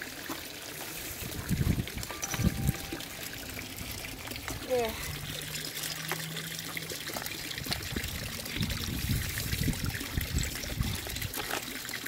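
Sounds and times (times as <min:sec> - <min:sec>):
water trickling into pond: 0:00.0 - 0:12.0.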